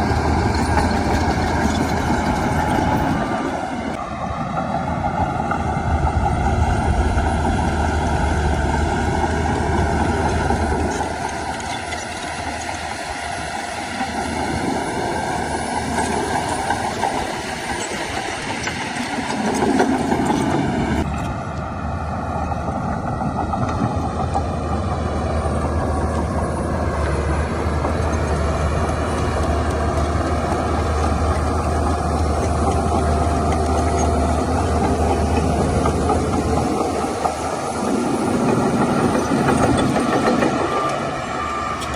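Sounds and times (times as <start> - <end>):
earthmoving machinery engine drone: 0.0 - 41.9.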